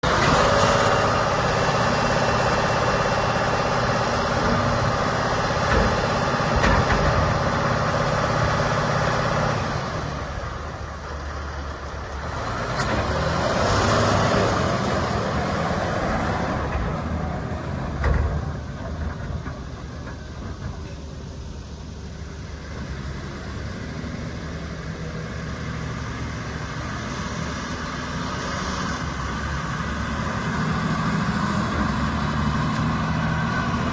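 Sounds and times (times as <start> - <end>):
dump truck diesel engine running: 0.0 - 33.9.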